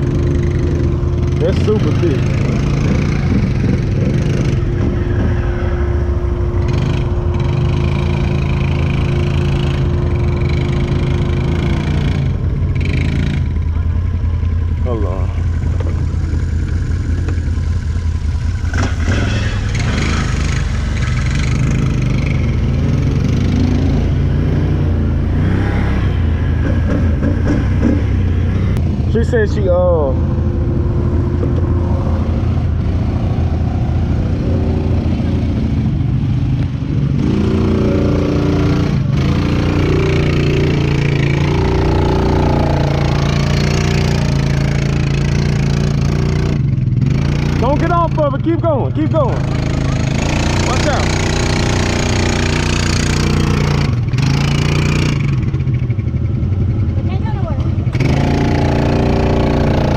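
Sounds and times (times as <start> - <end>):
engine running under load: 0.0 - 59.9.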